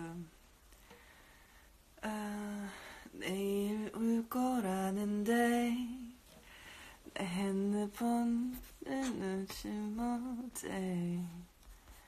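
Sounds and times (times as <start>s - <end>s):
woman singing softly: 0.0s - 0.4s, 1.9s - 12.0s.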